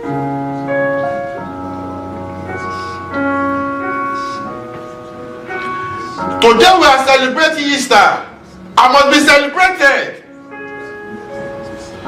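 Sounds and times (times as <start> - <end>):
keyboard playing organ-like chords: 0.0 - 12.0.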